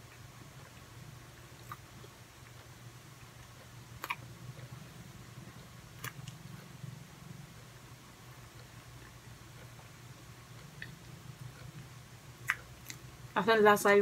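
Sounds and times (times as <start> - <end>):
person chewing pastry: 0.0 - 6.8, 7.5 - 13.3
low steady hum: 0.0 - 14.0.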